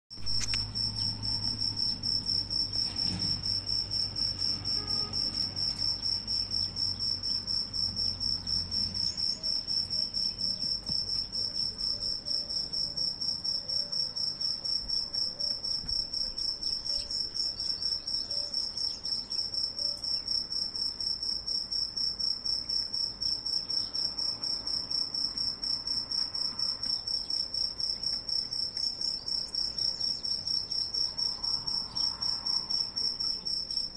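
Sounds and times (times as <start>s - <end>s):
cricket chirring: 0.1s - 33.9s.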